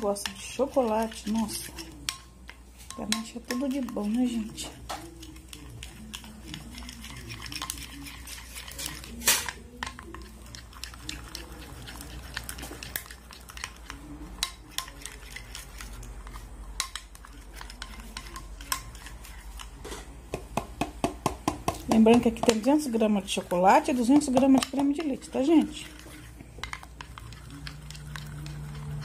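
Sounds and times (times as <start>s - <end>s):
spoon scraping glass dish: 0.0s - 20.1s, 21.8s - 29.0s.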